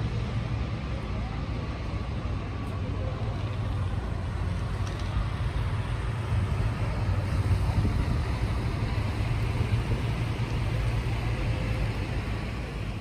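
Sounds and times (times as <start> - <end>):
heavy vehicle engines rumbling: 0.0 - 13.0.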